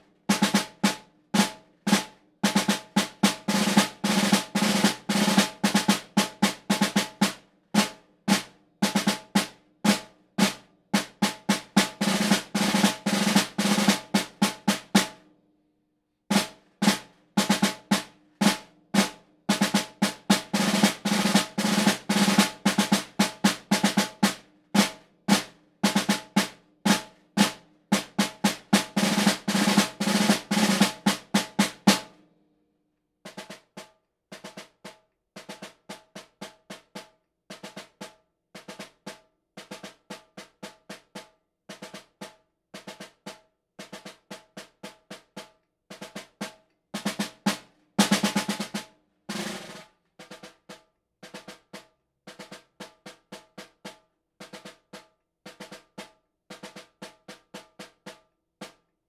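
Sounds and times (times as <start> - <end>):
snare drum march: 0.0 - 15.2, 16.3 - 32.1, 33.3 - 58.8.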